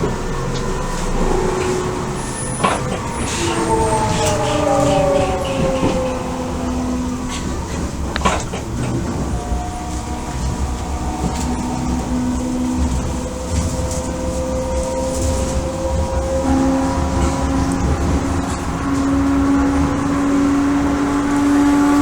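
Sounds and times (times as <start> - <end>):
wheel and rail rumble: 0.0 - 22.0.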